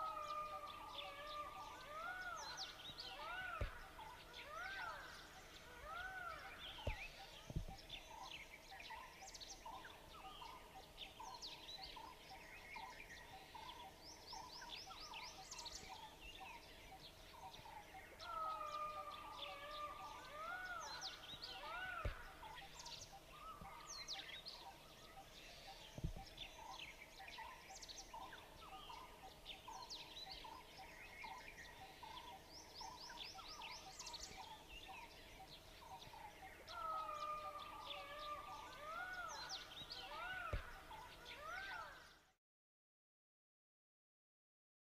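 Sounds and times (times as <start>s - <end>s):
forest birds chirping: 0.0s - 42.4s.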